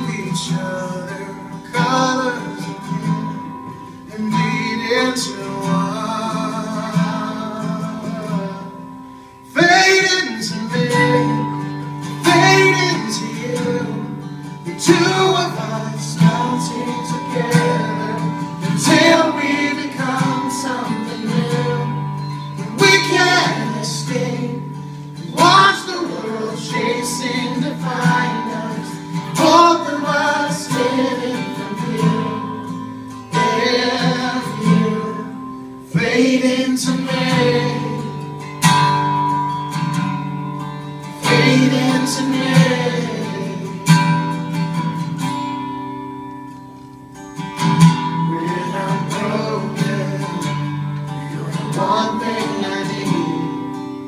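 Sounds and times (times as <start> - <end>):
man singing: 0.0 - 38.3, 41.2 - 44.1, 48.1 - 54.0
strummed acoustic guitar: 0.0 - 54.0.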